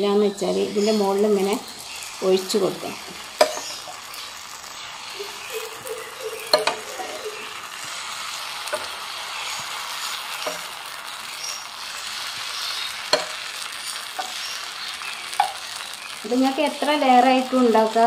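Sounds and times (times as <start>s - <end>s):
batter sizzling in a frying pan: 0.0s - 18.0s.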